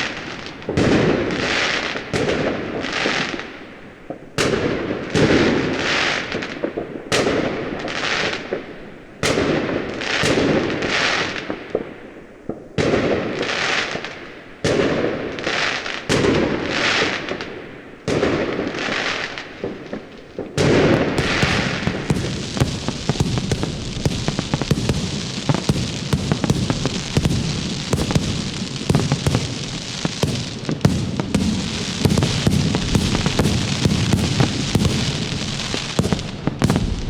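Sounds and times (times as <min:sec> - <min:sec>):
fireworks bangs with crackling hiss: 0:00.0 - 0:37.0.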